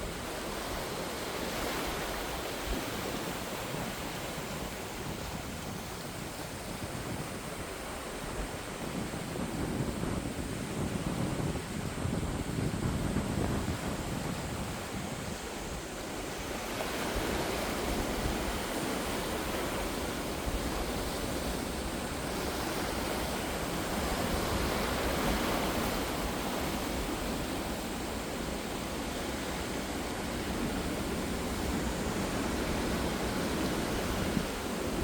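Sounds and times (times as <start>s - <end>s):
ocean waves washing in: 0.0s - 35.0s.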